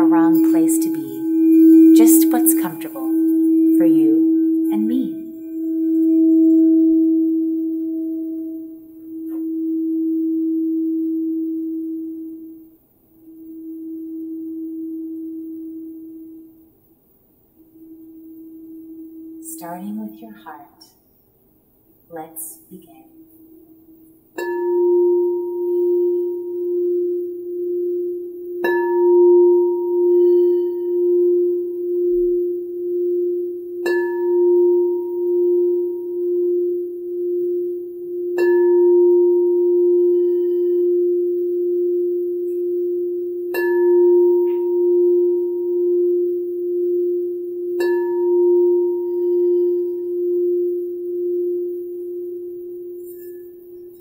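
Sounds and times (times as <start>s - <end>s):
singing bowl ringing: 0.0s - 20.2s, 23.1s - 54.0s.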